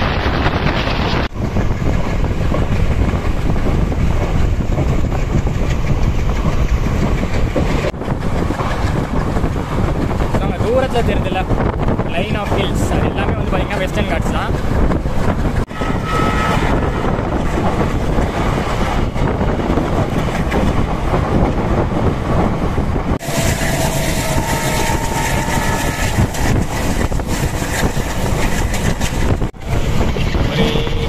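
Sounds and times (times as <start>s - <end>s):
train carriage rumbling and rattling: 0.0s - 31.0s.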